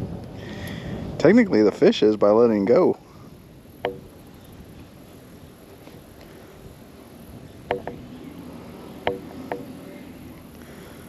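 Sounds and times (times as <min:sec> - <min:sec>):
wind on the microphone: 0:00.0 - 0:09.7.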